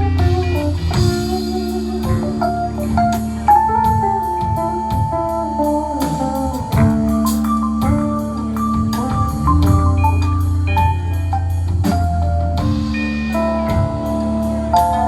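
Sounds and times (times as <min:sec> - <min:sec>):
guitar: 0:00.0 - 0:15.0
live band playing: 0:00.0 - 0:15.0
steady drum beat: 0:00.0 - 0:15.0.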